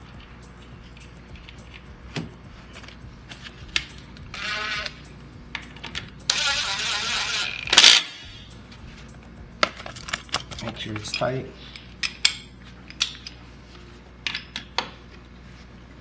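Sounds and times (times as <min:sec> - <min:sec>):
metal tools clinking: 0:00.0 - 0:14.8.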